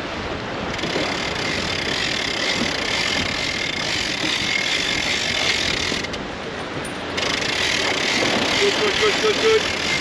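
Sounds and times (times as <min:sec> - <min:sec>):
boat engine running: 0:00.0 - 0:10.0
rushing wind and water: 0:00.0 - 0:10.0.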